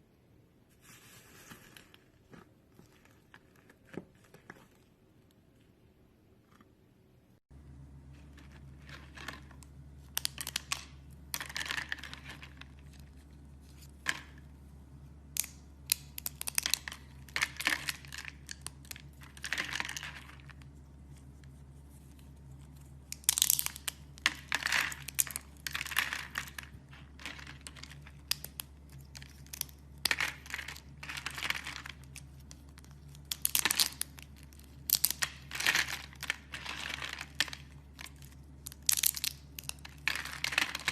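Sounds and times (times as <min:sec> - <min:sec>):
steady low hum: 0:05.8 - 0:40.8.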